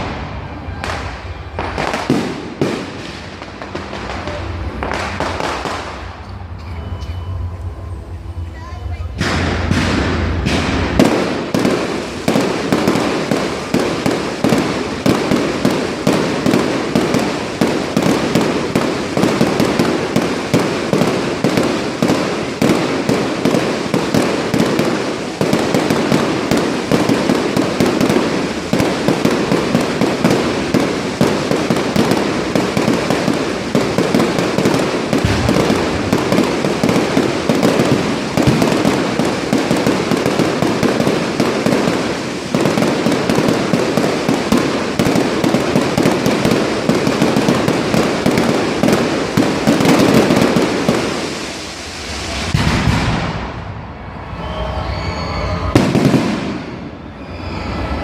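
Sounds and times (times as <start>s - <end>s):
fireworks cracking and banging: 0.0s - 54.5s, 55.4s - 58.0s.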